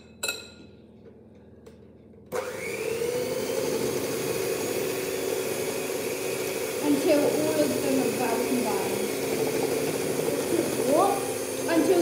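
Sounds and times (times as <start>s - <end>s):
electric hand mixer whirring: 2.3s - 12.0s.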